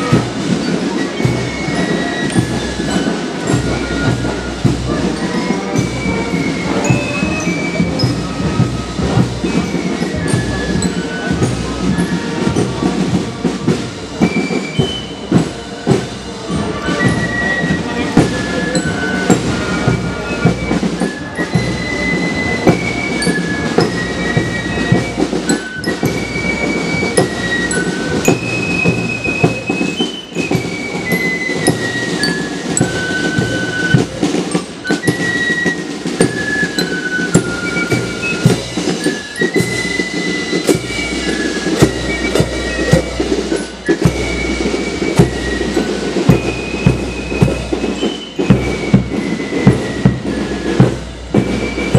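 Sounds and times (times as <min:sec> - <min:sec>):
shrill flute melody: 0:00.0 - 0:51.9
snare drums beating: 0:00.0 - 0:51.9.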